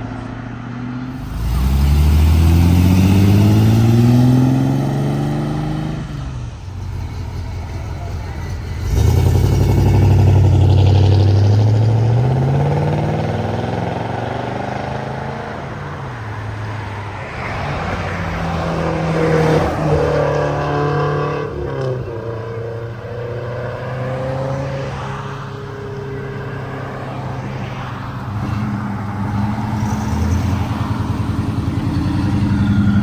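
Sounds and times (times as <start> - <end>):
passing car engine: 0.0 - 33.0
car engine starting and accelerating: 0.7 - 33.0.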